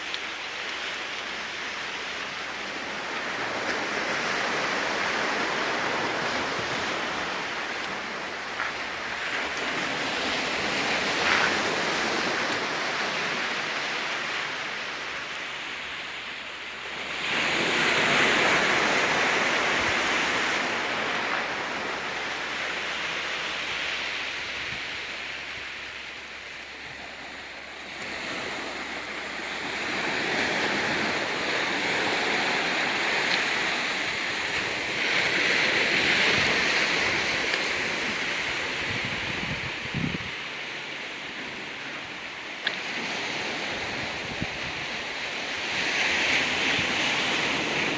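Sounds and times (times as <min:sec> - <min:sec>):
ocean waves on rocky beach: 0:00.0 - 0:47.9.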